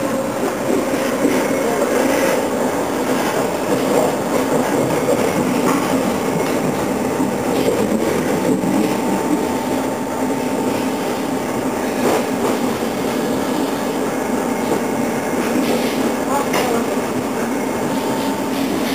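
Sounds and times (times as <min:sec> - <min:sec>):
train wheels rumbling on rails: 0:00.0 - 0:18.9.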